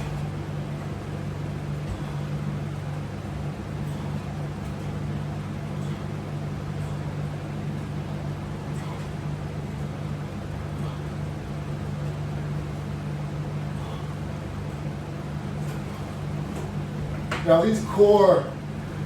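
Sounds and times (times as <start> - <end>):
low hum with hiss: 0.0 - 19.0.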